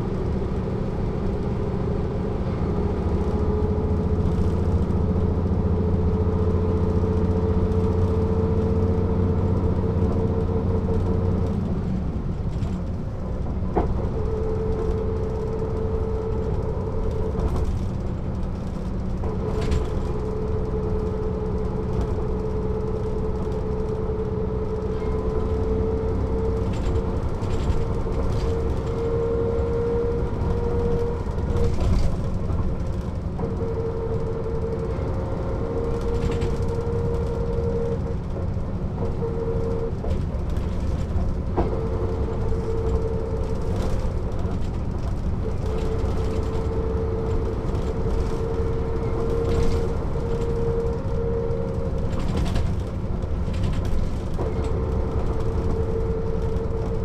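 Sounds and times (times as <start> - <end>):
bus diesel engine: 0.0 - 57.0
road rumble: 0.0 - 57.0.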